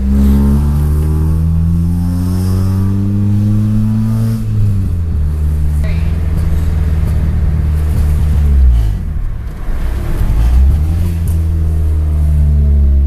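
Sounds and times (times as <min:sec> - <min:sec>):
car engine and exhaust accelerating: 0:00.0 - 0:13.0.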